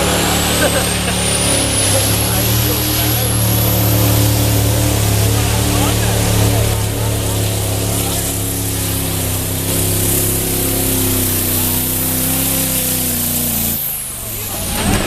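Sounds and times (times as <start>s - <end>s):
tractor engine at high revs: 0.0s - 15.0s.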